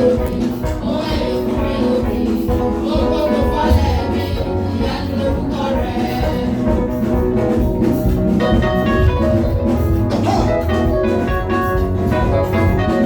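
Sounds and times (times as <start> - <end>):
bass: 0.0 - 13.0
keyboard chords: 0.0 - 13.0
steady drum beat: 0.0 - 13.0
upbeat praise band music: 0.0 - 13.0.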